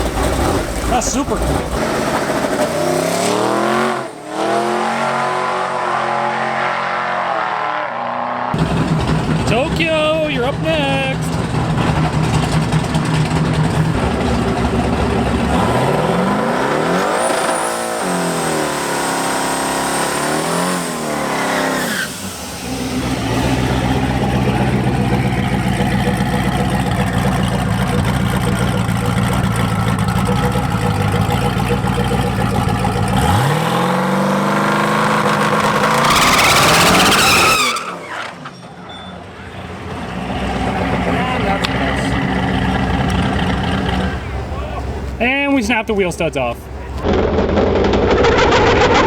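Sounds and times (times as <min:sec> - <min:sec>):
drag car engine revving: 0:00.0 - 0:49.0.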